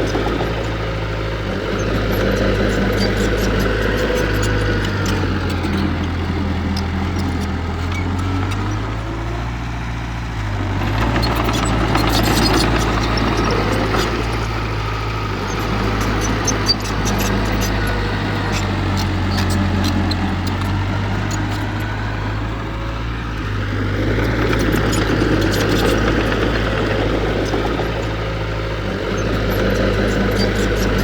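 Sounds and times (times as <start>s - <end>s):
diesel engine of heavy machinery: 0.0s - 31.0s.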